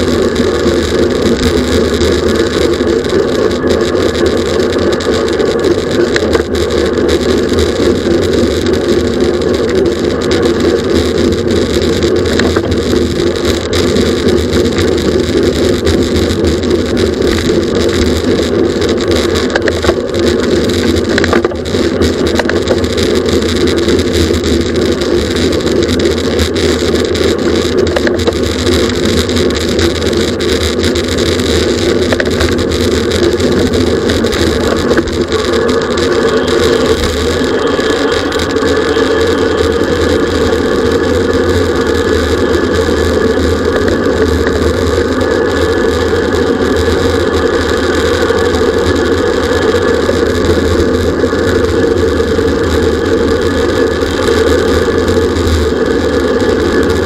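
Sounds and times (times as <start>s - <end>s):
road noise: 0.0s - 57.0s
wind roar: 0.0s - 57.0s.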